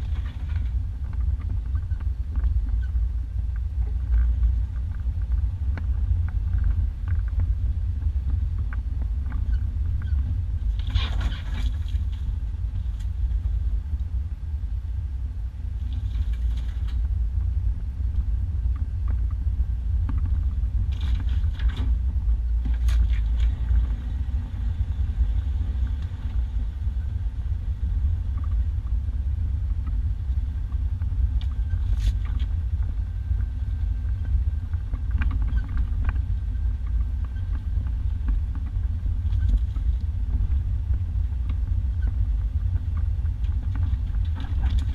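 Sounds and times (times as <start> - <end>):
sharp rattles from vehicle body: 0.0 - 3.0, 3.8 - 13.6, 20.0 - 44.9
engine and road rumble: 0.0 - 44.9.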